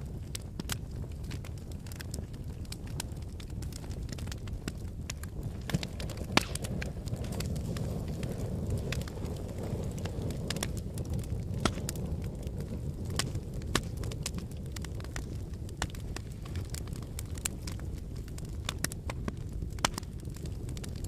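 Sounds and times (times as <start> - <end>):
fire crackling in fireplace: 0.0 - 21.0
sharp pops of fire: 0.0 - 21.0.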